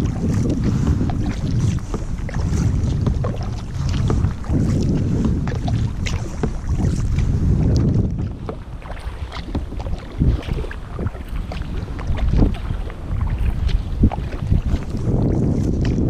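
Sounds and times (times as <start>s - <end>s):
paddle splashing in water: 0.0s - 16.0s
water washing along hull: 0.0s - 16.0s.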